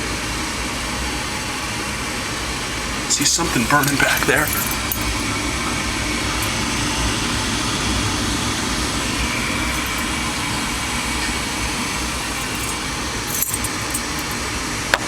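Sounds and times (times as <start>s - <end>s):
faint high whine: 0.0s - 14.4s
gas furnace rushing hum: 0.0s - 15.0s.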